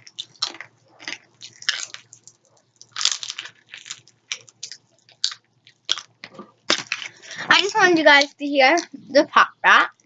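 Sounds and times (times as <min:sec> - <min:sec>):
popping candy crackling in mouth: 0:00.0 - 0:09.3.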